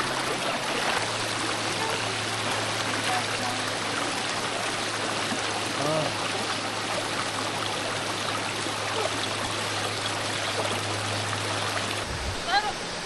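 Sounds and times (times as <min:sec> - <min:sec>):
stream rushing over rocks: 0:00.0 - 0:12.8.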